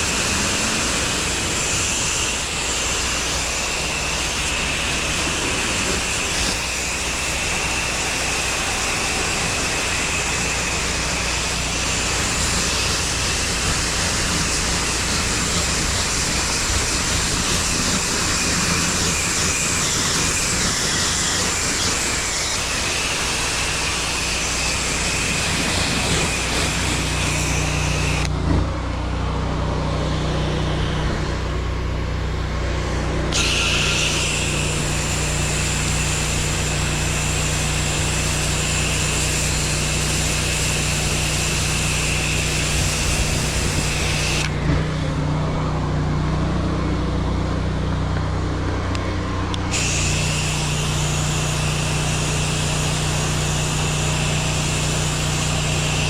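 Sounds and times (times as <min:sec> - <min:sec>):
water spray hissing: 0:00.0 - 0:28.3, 0:32.6 - 0:44.6, 0:49.6 - 0:56.0
pressure washer engine running: 0:00.0 - 0:56.0.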